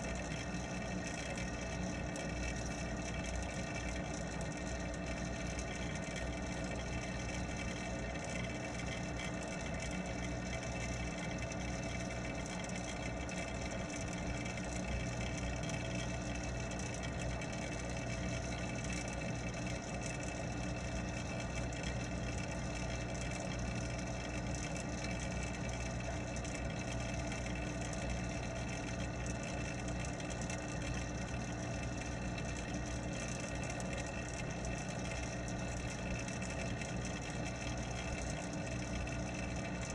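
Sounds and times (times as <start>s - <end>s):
water pump humming underwater: 0.0s - 39.9s.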